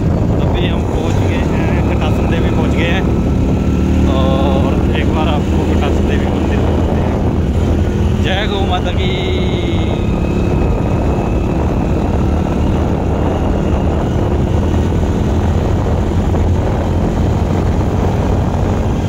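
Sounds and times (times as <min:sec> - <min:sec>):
engine drone: 0:00.0 - 0:19.0
wind rushing over microphone: 0:00.0 - 0:19.0.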